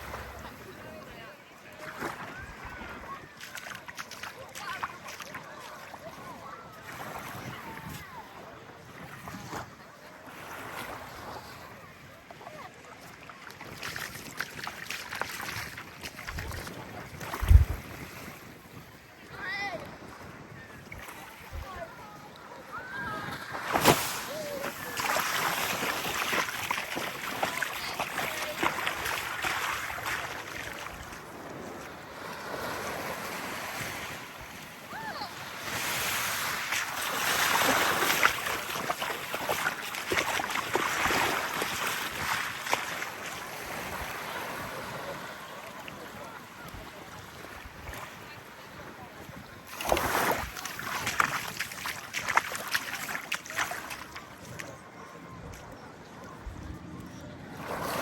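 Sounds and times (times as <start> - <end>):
small waves lapping on beach: 0.0 - 58.0.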